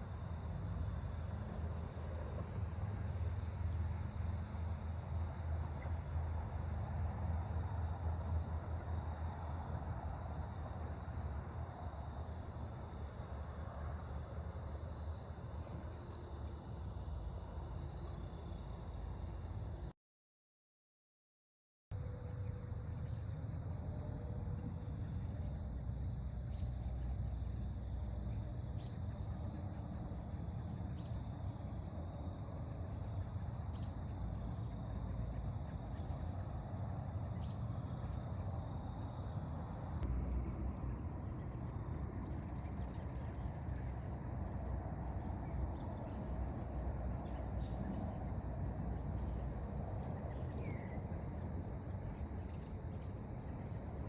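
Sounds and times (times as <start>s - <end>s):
crickets trilling: 0.0s - 19.9s, 22.0s - 54.0s.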